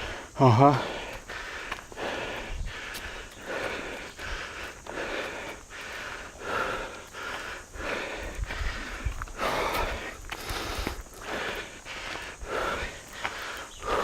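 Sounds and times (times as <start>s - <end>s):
heavy rapid breathing: 0.0s - 14.0s.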